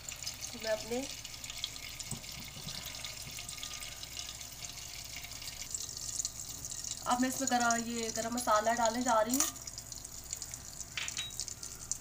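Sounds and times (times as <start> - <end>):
oil and butter sizzling: 0.0 - 12.0.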